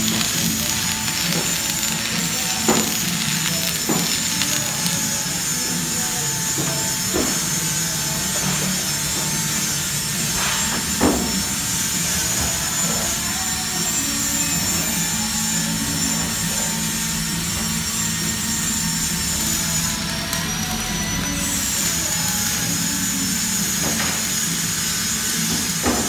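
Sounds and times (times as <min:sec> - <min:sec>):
machine hum with high whine: 0:00.0 - 0:26.0.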